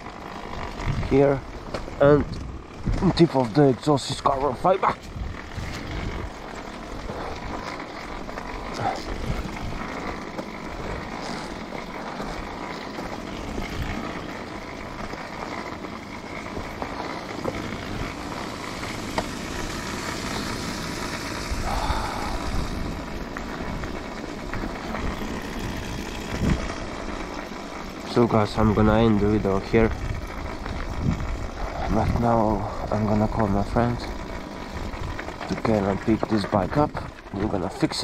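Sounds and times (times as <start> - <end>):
wind buffeting microphone: 0.0 - 15.2, 21.3 - 37.6
dirt bike engine running: 0.0 - 38.0.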